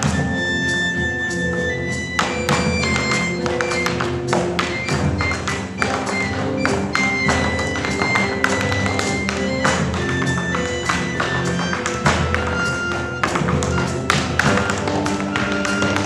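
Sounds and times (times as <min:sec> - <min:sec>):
instrumental music: 0:00.0 - 0:16.0
tap shoes tapping on stage: 0:00.0 - 0:16.0.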